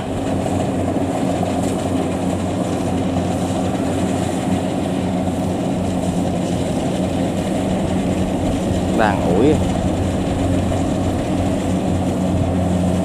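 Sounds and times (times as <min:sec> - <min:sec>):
combine harvester diesel engine: 0:00.0 - 0:13.0.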